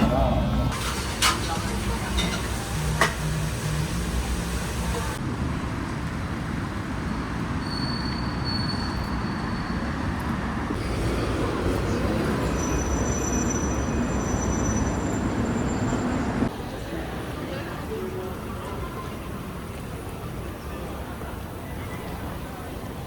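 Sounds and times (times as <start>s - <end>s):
train rumbling: 0.0s - 5.6s, 10.1s - 23.0s.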